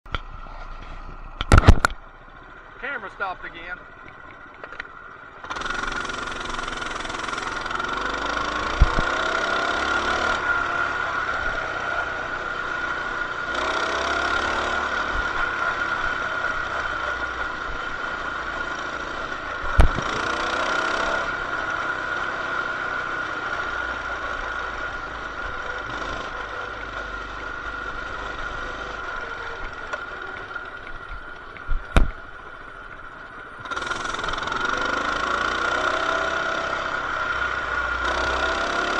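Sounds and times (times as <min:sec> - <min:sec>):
mini bike engine accelerating: 0:04.5 - 0:38.9.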